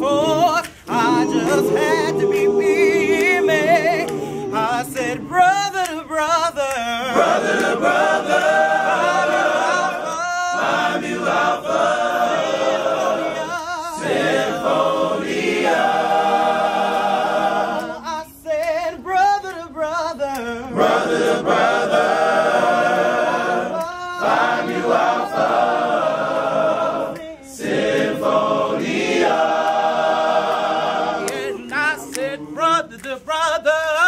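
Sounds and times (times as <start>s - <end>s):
male choir singing in harmony: 0.0s - 34.0s.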